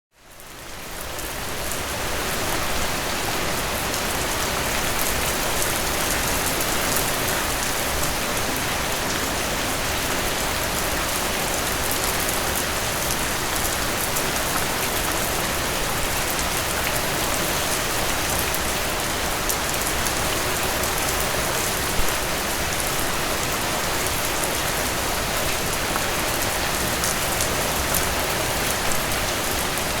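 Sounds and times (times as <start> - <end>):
steady rain: 0.1 - 30.0.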